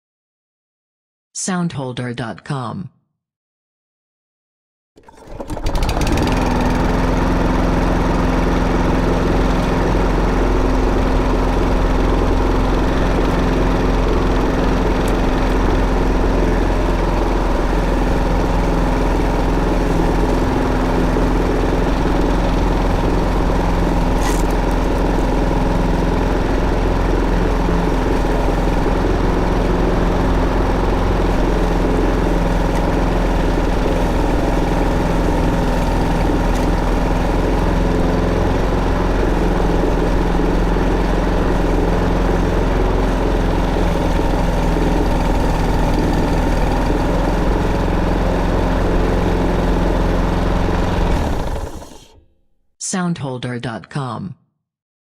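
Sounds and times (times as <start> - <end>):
lawn mower engine running: 5.0 - 52.2.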